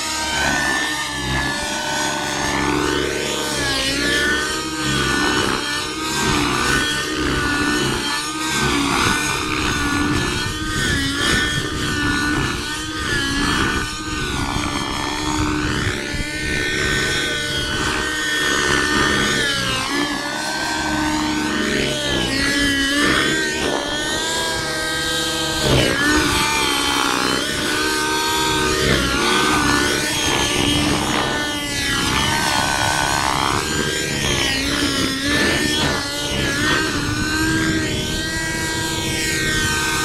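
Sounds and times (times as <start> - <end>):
model helicopter engine and rotor: 0.0 - 40.0.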